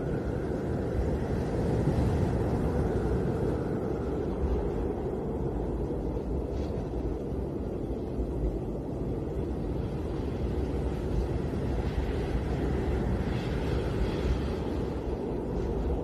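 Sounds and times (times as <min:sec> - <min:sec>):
wind blowing deep rumble: 0:00.0 - 0:16.0.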